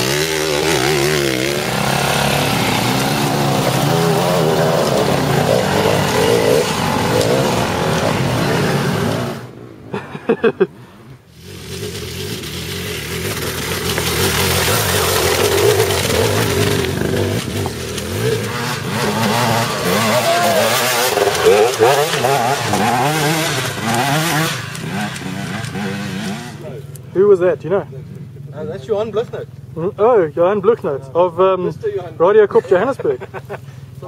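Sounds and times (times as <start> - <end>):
motorcycle engines revving: 0.0 - 9.8, 11.3 - 34.0.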